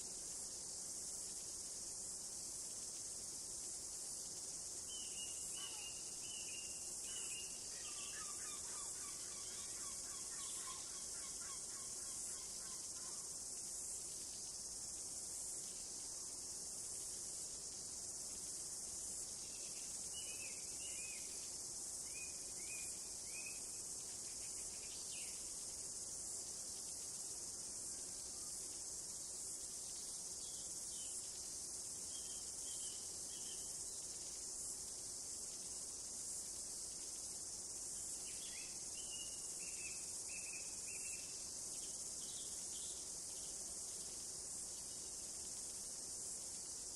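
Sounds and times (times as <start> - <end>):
insects chorus: 0.0 - 46.9.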